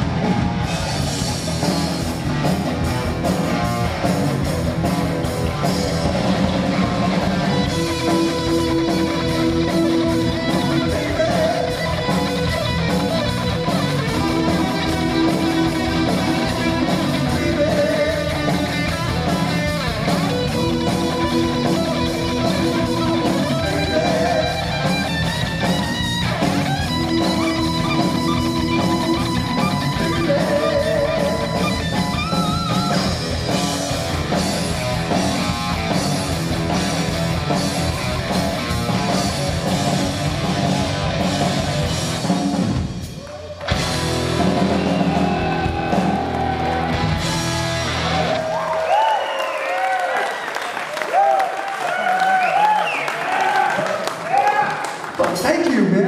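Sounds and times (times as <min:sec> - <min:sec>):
heavy metal band playing live: 0:00.0 - 0:48.8.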